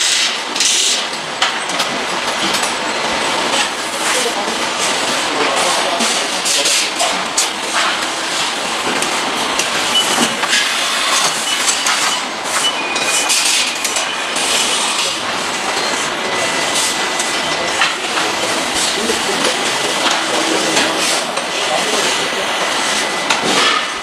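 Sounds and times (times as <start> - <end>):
factory machinery clattering: 0.0 - 24.0.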